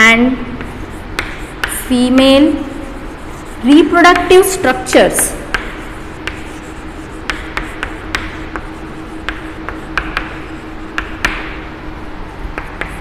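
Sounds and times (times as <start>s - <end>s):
chalk tapping and scratching: 0.0s - 11.7s, 12.3s - 13.0s
faint steady hum: 0.0s - 13.0s.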